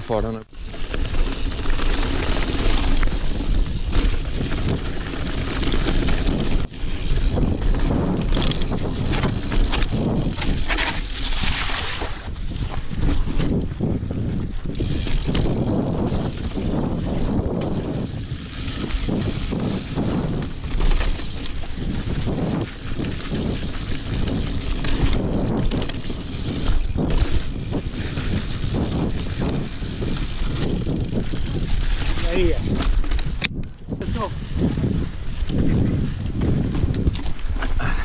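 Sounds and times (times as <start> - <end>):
wind noise on microphone: 0.0 - 38.0
bike rattling and knocking: 0.5 - 33.9.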